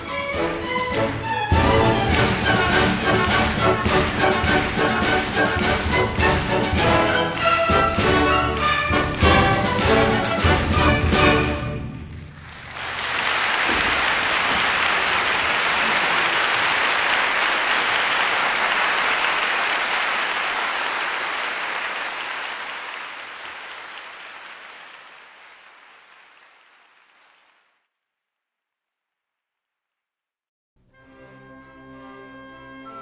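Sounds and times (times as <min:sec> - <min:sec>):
audience applause: 0:01.3 - 0:27.8.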